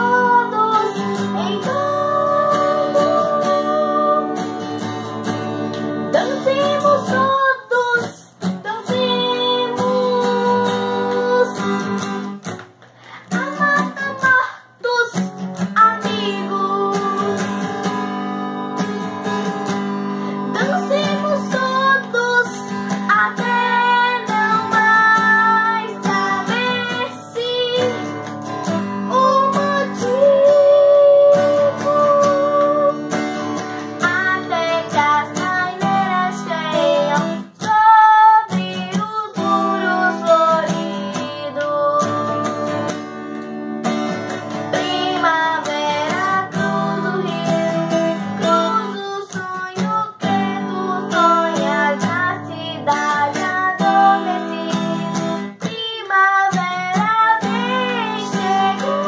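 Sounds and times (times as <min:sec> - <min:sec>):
girl singing: 0:00.0 - 0:43.3, 0:44.3 - 0:59.0.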